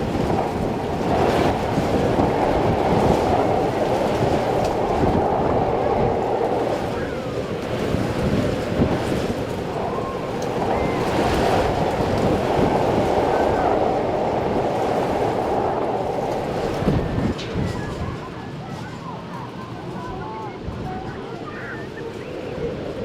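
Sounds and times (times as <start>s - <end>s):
faint voices: 0.0s - 23.0s
rushing outdoor noise: 0.0s - 23.0s.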